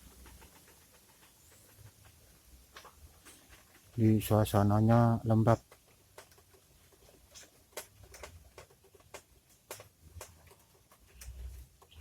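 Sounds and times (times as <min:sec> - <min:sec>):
faint clicks and crackles: 0:00.0 - 0:12.0.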